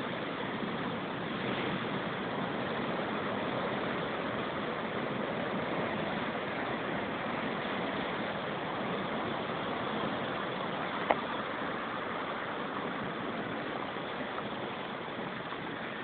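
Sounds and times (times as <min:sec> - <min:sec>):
rough sea at shore: 0:00.0 - 0:16.0
rushing wind: 0:00.0 - 0:16.0.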